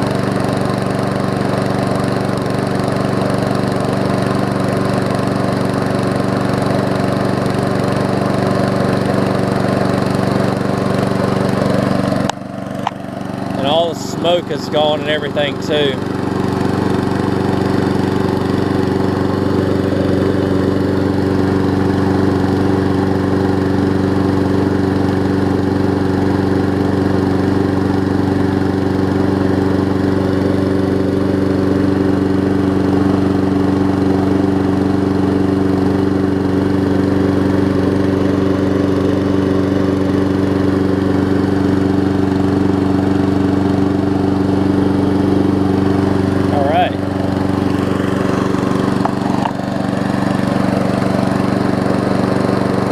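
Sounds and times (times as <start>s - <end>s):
lawn mower engine running: 0.0s - 52.9s.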